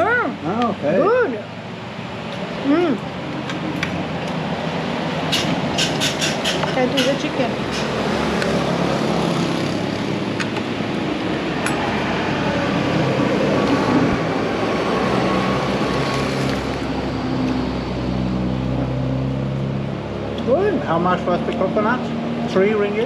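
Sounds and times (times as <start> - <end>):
vehicle engine hum: 0.0 - 23.0.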